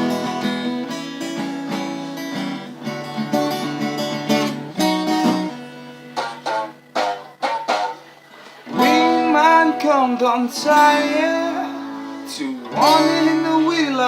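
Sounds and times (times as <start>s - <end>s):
acoustic guitar folk blues: 0.0s - 14.0s.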